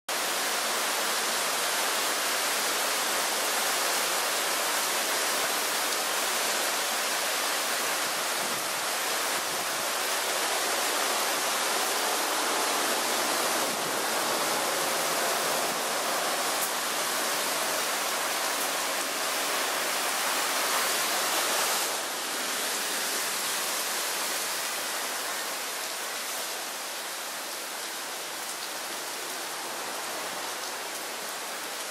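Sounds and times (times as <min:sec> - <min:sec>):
heavy rain on pavement and water: 0:00.1 - 0:31.9.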